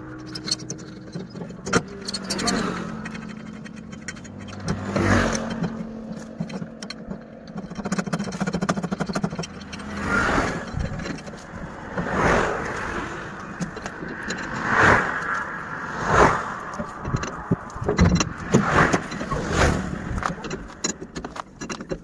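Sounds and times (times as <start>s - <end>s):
spanner clicking on wheel nuts: 0.0s - 22.0s
vehicles driving past: 0.0s - 22.0s.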